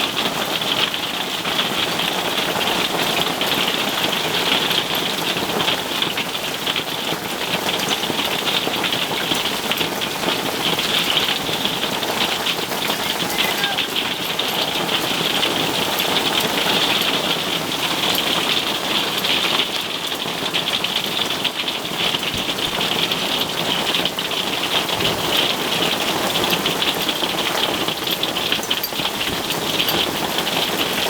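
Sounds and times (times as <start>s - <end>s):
hail and rain on a roof: 0.0s - 31.0s.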